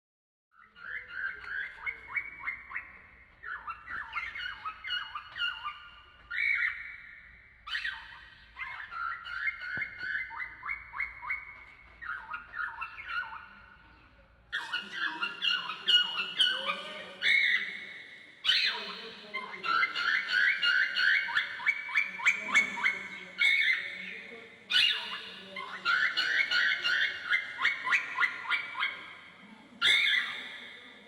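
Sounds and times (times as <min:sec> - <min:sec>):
cockatiel chirping: 0:00.6 - 0:13.8, 0:14.5 - 0:29.2, 0:29.8 - 0:30.9.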